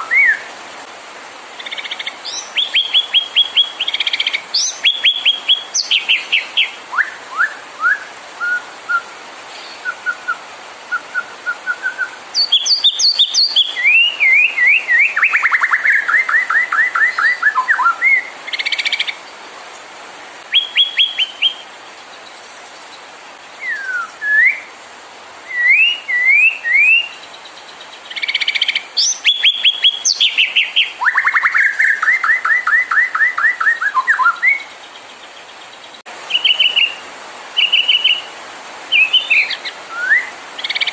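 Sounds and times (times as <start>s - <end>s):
bird singing varied song: 0.0s - 0.5s, 1.6s - 19.3s, 20.5s - 24.8s, 25.5s - 37.0s, 37.6s - 40.9s.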